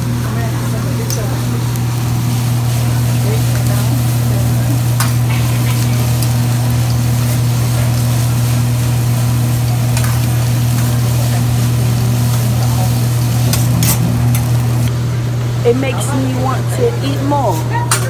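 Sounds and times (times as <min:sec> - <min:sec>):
rice sizzling on a griddle: 0:00.0 - 0:14.9
steady low hum: 0:00.0 - 0:17.5.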